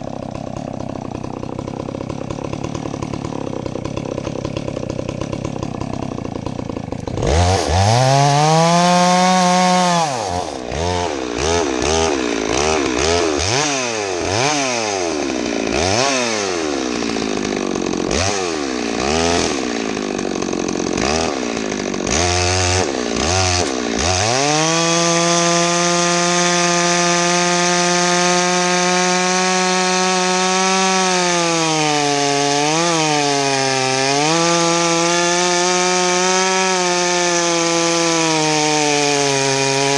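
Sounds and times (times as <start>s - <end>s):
chainsaw cutting log: 0.0s - 39.9s
chainsaw revving: 0.0s - 39.9s.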